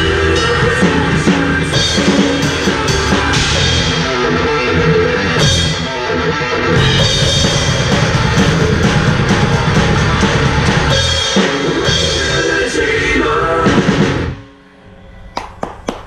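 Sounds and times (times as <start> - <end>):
drum kit played hard: 0.0 - 14.4
recorded metal song: 0.0 - 15.6.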